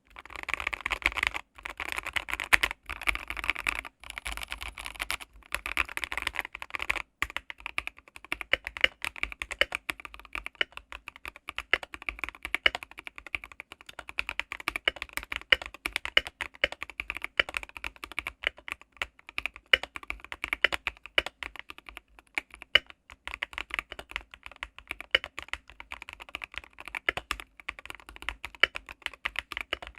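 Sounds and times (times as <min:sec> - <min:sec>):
mechanical keyboard typing: 0:00.0 - 0:29.9.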